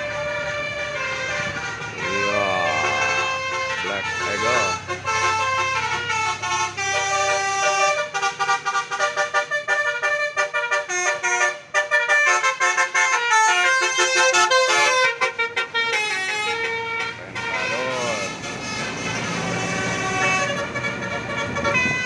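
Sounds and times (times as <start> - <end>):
musical air horn melody: 1.3 - 22.0.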